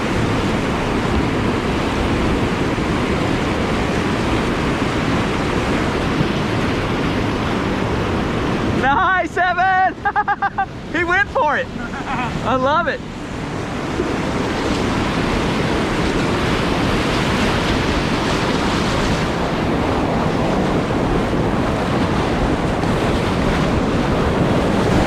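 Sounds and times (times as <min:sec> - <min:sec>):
whitewater rushing: 0:00.0 - 0:25.0.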